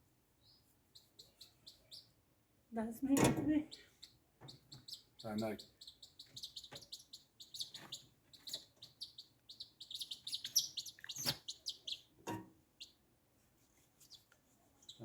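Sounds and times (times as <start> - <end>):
small birds chirping: 0.4 - 2.2, 3.5 - 13.0, 14.0 - 15.0.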